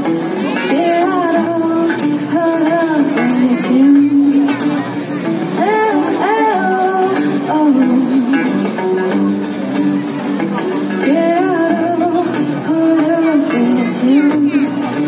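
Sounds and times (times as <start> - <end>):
electric guitar: 0.0 - 15.0
strummed acoustic guitar: 0.0 - 15.0
person singing: 0.5 - 9.0, 10.9 - 15.0.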